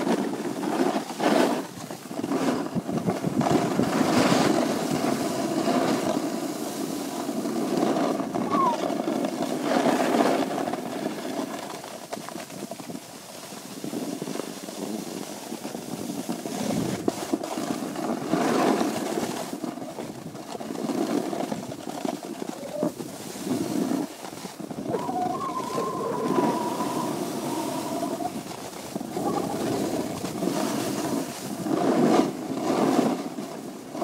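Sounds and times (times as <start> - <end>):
wind rushing over microphone: 0.0 - 11.2, 12.6 - 34.0
skis scraping on snow: 0.0 - 34.0.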